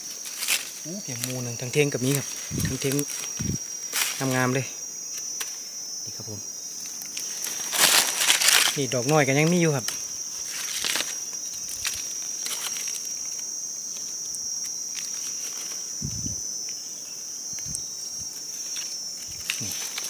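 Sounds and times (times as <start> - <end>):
rustling in dry leaves: 0.0 - 5.7, 6.5 - 20.0
insects chirring: 0.0 - 20.0.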